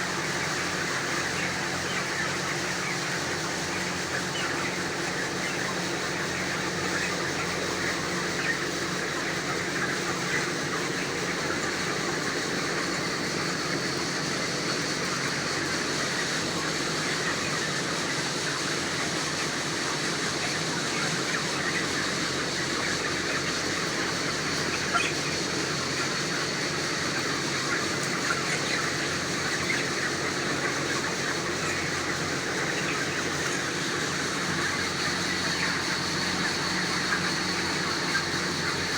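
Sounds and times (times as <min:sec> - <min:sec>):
chicks peeping and clucking: 0:00.0 - 0:38.9.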